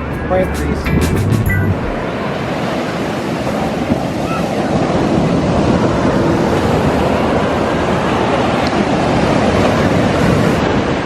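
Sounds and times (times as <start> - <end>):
ocean surf breaking: 0.0 - 11.0
wind on microphone: 0.0 - 11.0.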